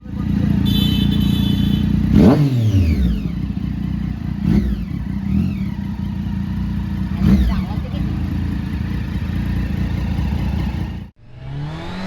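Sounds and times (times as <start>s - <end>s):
superbike engines revving: 0.0s - 12.0s.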